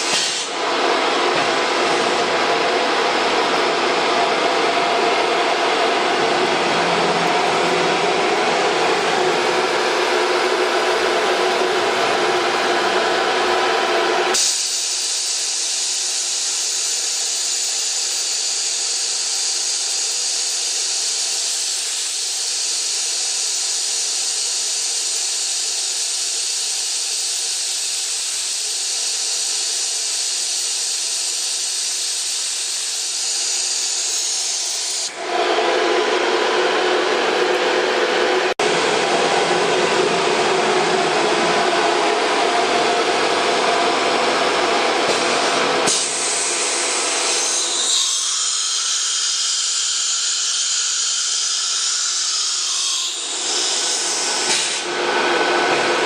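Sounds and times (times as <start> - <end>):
cnc router running: 0.0 - 56.0.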